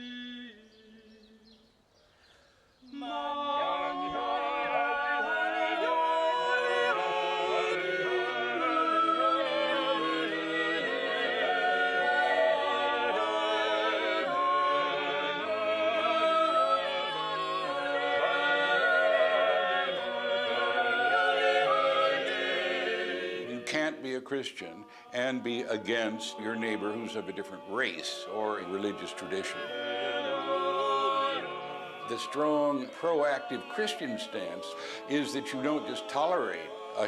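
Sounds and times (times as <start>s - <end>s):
choir singing a cappella: 0.0s - 1.8s, 2.7s - 37.0s.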